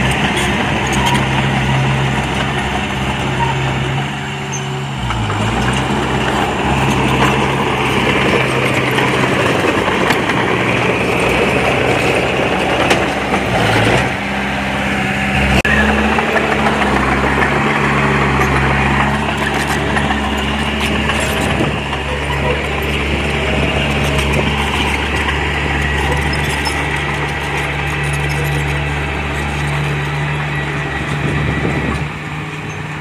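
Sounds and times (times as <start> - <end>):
heavy diesel engine droning: 0.0 - 33.0.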